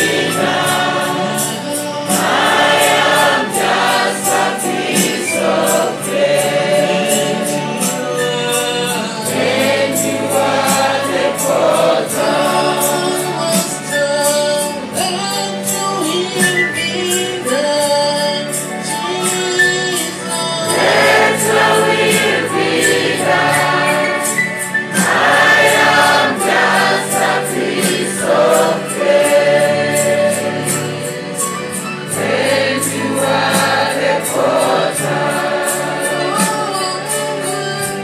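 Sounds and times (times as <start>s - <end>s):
choir singing: 0.0s - 14.9s, 20.0s - 38.0s
band with steady beat: 0.0s - 38.0s.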